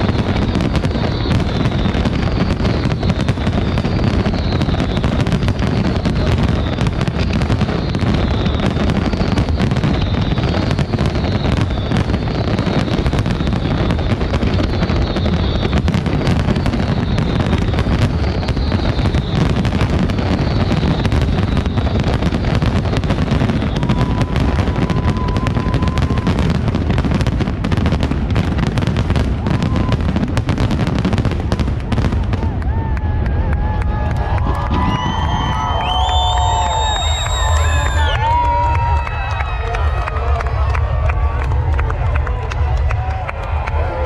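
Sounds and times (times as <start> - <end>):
firework falling whistles: 0.0 - 40.8
firework bangs and crackling: 0.0 - 44.0.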